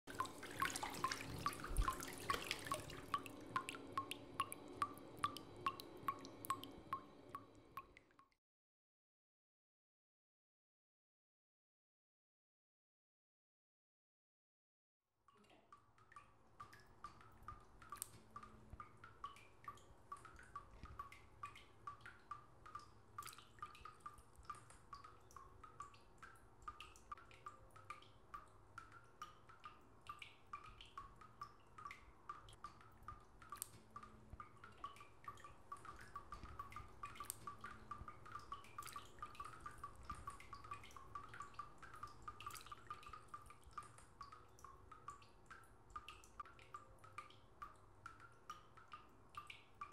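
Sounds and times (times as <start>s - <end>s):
water dripping: 0.0s - 8.4s, 15.3s - 49.9s.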